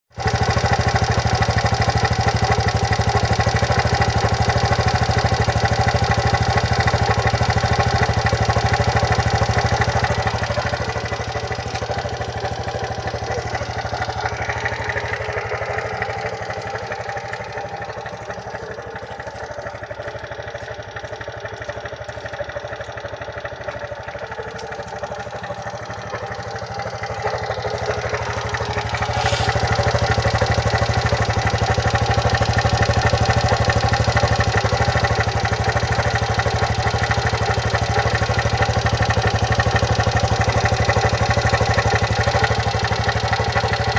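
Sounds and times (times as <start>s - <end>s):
scooter engine idling: 0.1s - 43.9s.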